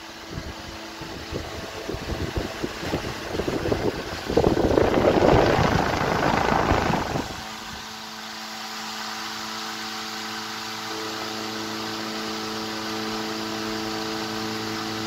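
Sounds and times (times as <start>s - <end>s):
fan airflow buffeting microphone: 0.0s - 15.0s
fan motor humming: 0.0s - 15.0s.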